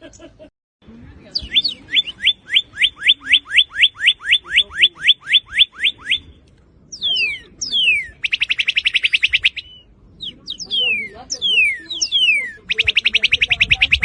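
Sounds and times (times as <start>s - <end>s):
cardinal whistled song: 1.4s - 14.0s.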